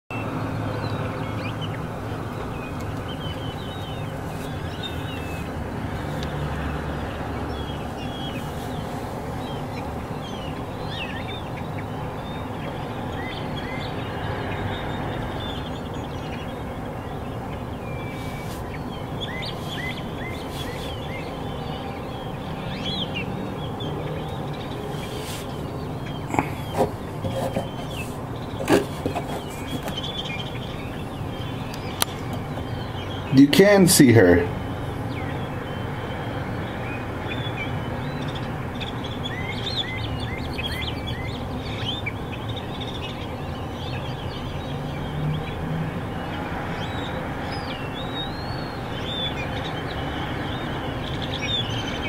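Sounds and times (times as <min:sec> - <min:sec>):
small birds chirping: 0:00.1 - 0:52.0.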